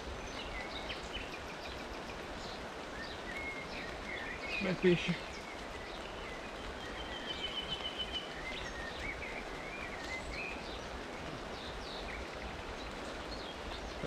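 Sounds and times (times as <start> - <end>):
bird singing warbling phrases: 0.0 - 14.0
rain falling on a river: 0.0 - 14.0.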